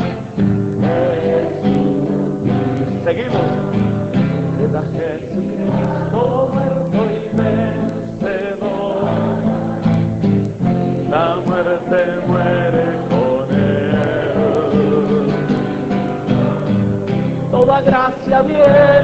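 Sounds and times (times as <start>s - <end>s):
instrumental accompaniment: 0.0s - 19.0s
worship song singing: 0.0s - 19.0s.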